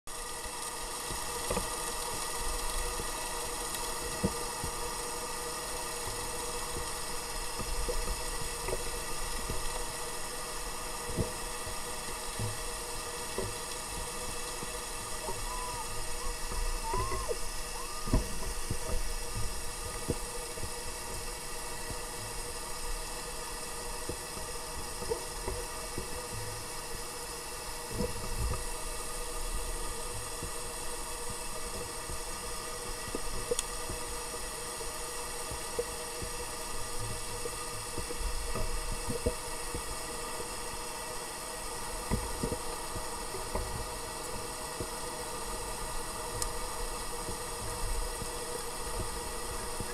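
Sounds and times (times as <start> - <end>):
underwater ship engine drone: 0.1 - 49.9.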